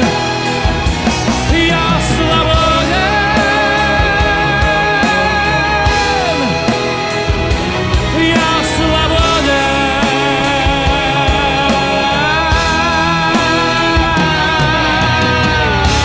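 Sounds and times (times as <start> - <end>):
rock music with sliding notes: 0.0 - 16.0
steady bass: 0.0 - 16.0.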